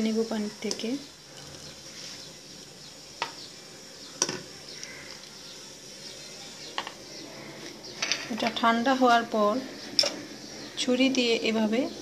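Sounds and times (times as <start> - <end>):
water simmering in a pot: 0.0 - 12.0.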